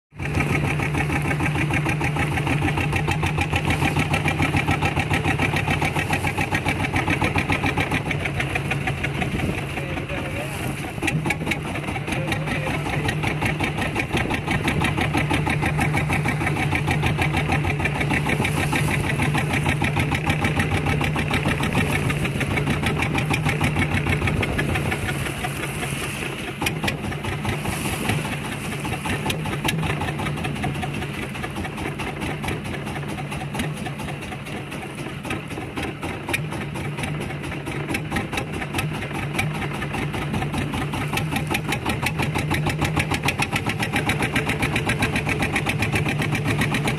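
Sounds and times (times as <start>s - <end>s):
boat engine pulsing: 0.1s - 46.9s.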